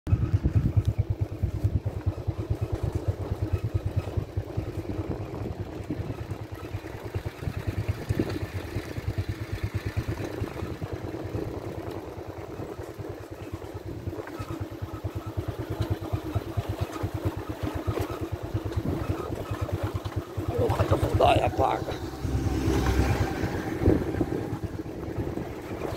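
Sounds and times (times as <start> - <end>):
vehicle engine and road rumble: 0.1 - 25.9.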